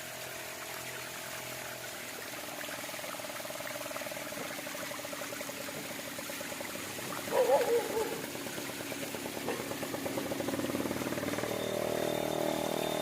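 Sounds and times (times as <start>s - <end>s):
water running over rock: 0.0s - 13.0s.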